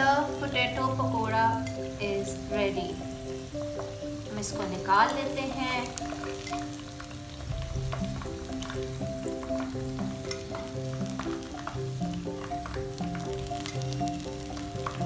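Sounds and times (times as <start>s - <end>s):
background music: 0.0s - 15.0s
food sizzling in hot oil: 0.0s - 15.0s
oil crackling: 0.0s - 15.0s.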